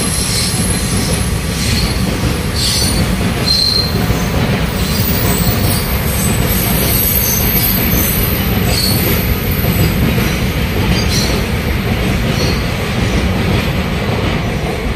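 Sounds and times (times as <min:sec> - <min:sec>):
wheels squealing on rail: 0:00.0 - 0:11.6, 0:12.3 - 0:12.8
train rumbling on tracks: 0:00.0 - 0:14.9.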